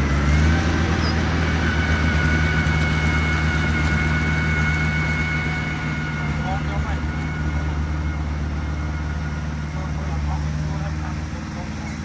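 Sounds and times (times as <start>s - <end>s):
heavy machine engine at low revs: 0.0s - 12.0s
thin high whine: 1.0s - 12.0s.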